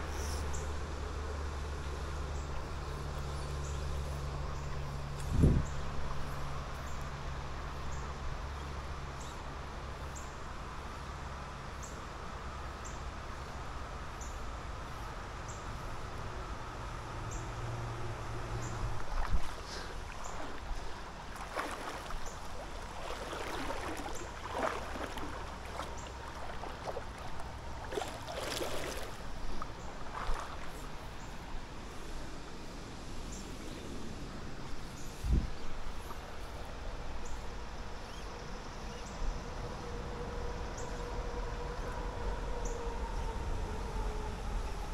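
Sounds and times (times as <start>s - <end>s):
river water flowing and splashing: 0.0s - 44.9s.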